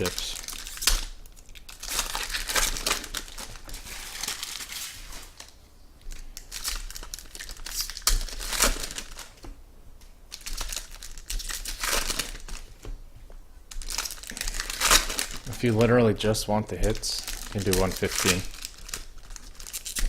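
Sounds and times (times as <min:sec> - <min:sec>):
packaging wrap crinkling and tearing: 0:00.0 - 0:09.4, 0:10.3 - 0:12.8, 0:13.7 - 0:20.0.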